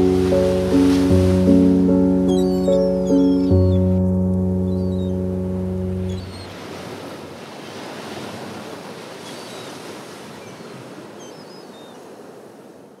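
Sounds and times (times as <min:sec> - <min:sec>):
ocean waves washing: 0:00.0 - 0:13.0.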